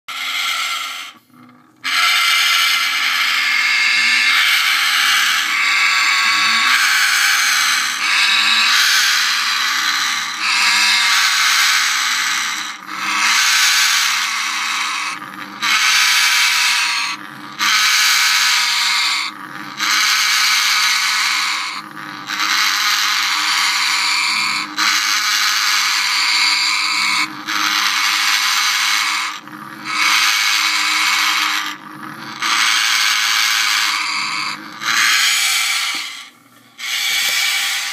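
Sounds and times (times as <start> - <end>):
parrots growling and hissing: 0.0 - 37.9.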